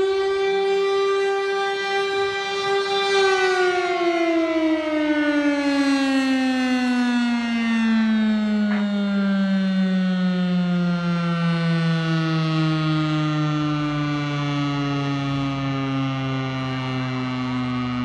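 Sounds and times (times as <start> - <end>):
mechanical siren winding down: 0.0 - 18.0.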